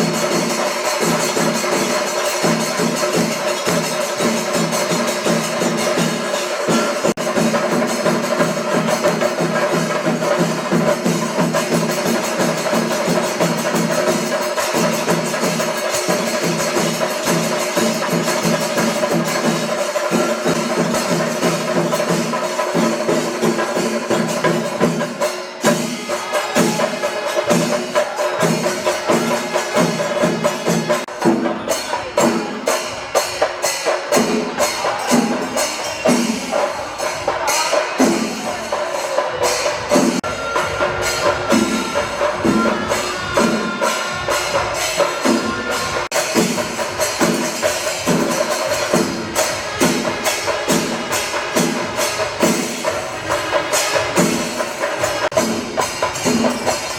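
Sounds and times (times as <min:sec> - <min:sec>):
drums beating fast: 0:00.0 - 0:56.9
hand cymbals: 0:00.0 - 0:56.9.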